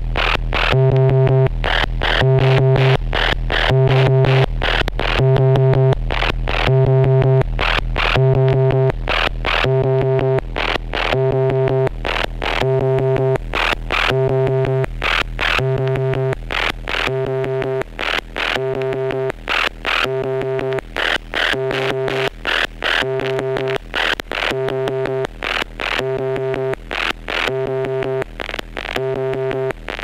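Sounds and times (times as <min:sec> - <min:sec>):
buzzing synthesizer tone: 0:00.0 - 0:30.0.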